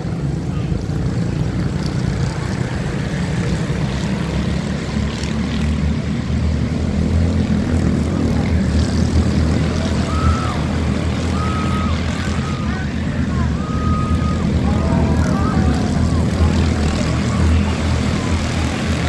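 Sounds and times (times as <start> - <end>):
small race car engines droning: 0.0 - 19.0.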